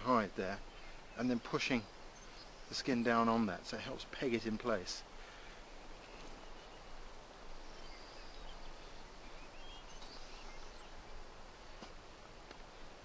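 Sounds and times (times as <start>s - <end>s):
faint bird chirps: 0.0s - 11.4s
steady low hiss: 0.0s - 13.0s.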